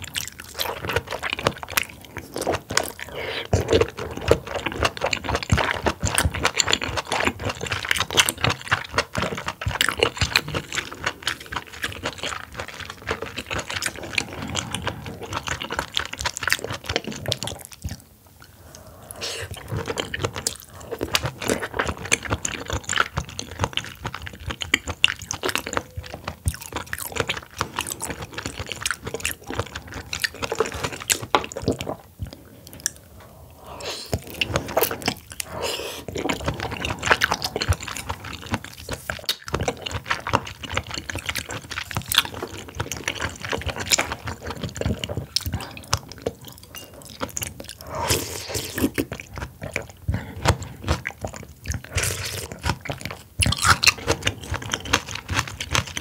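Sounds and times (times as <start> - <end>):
wet chewing of oysters: 0.0 - 56.0.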